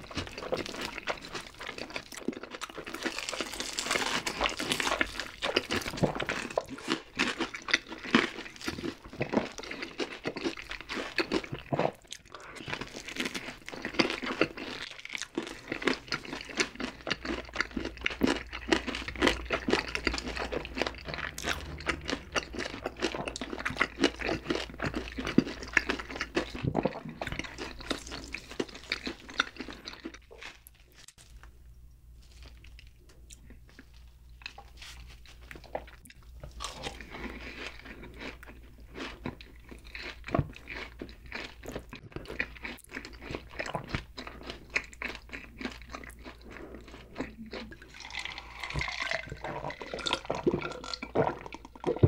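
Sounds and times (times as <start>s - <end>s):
crunchy chewing: 0.0s - 31.6s, 32.2s - 52.0s.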